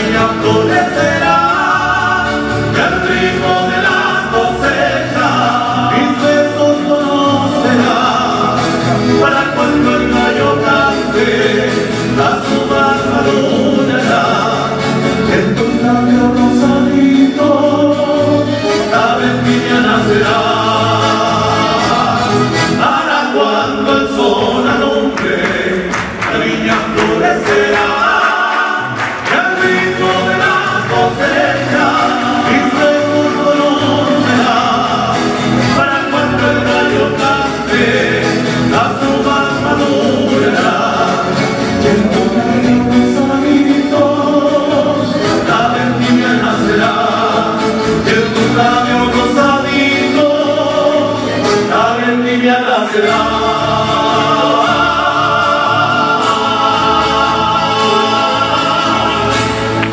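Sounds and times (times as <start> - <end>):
accordion: 0.0 - 59.9
men singing in harmony: 0.0 - 59.9
strummed acoustic guitars: 0.0 - 59.9.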